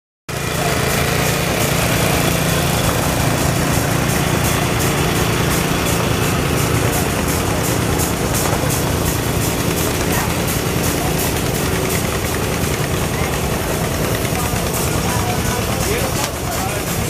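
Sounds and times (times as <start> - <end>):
engines running steadily: 0.3 - 17.0.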